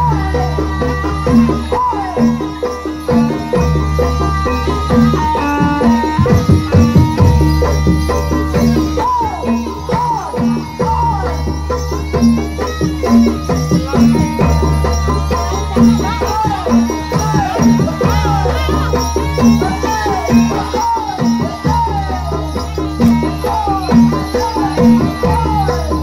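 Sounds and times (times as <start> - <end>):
gamelan-style percussion: 0.0 - 26.0.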